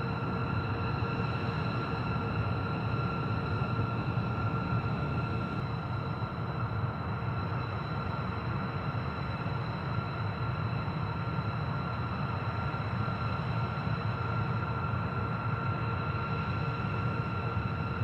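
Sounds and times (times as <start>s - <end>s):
jet engine rumble and whine: 0.0s - 18.0s.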